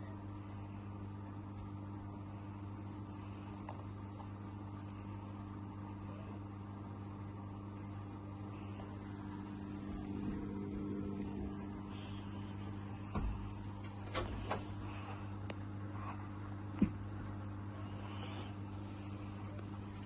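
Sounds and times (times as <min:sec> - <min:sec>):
washing machine humming: 0:00.0 - 0:20.0.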